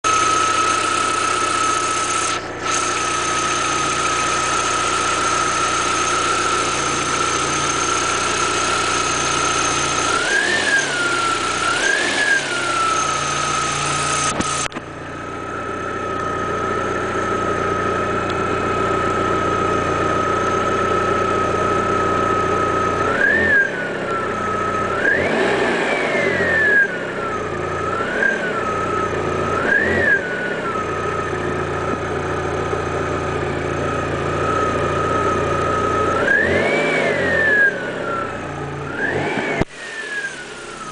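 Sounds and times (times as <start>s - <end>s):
alternator whining: 0.0s - 40.9s
car engine revving: 0.1s - 40.9s.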